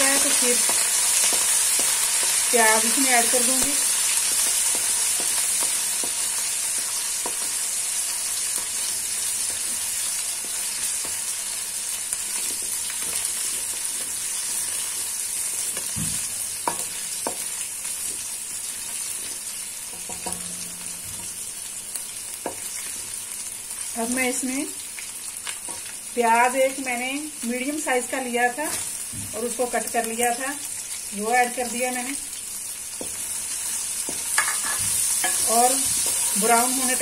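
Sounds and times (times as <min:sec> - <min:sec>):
paste sizzling in hot oil: 0:00.0 - 0:37.0.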